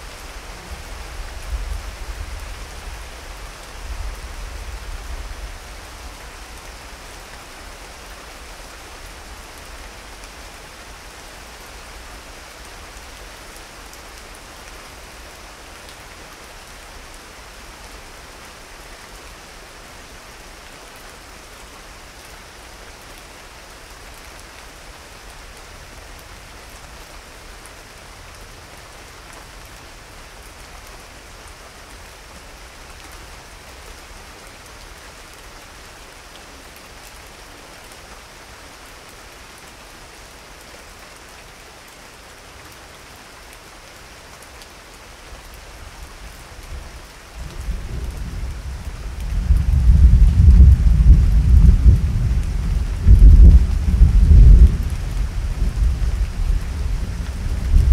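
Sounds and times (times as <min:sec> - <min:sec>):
rain falling hiss: 0:00.0 - 0:57.9.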